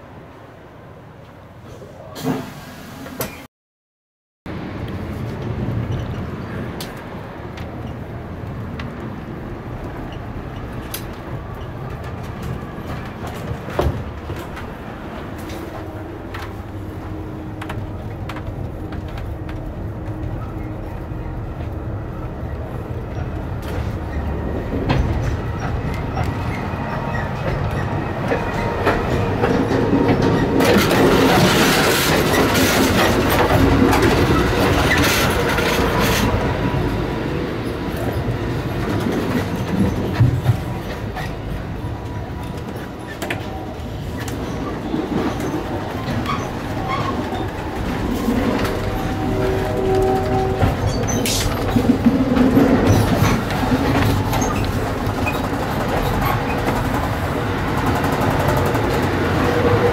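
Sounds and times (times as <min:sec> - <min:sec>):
train running rumble: 0:04.5 - 0:59.9.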